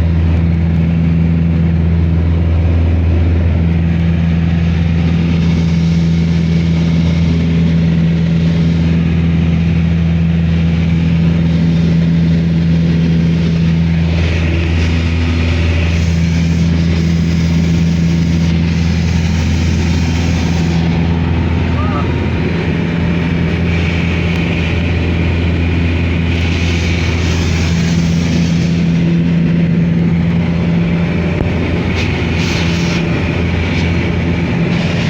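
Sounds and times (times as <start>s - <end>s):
engine drone inside vehicle: 0.0s - 35.0s.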